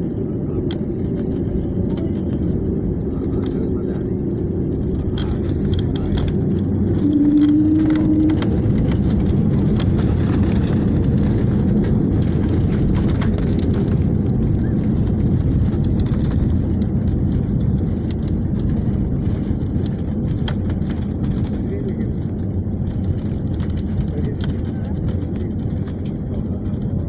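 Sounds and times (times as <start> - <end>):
jet engine noise: 0.0 - 27.0
wheel rumble: 0.0 - 27.0.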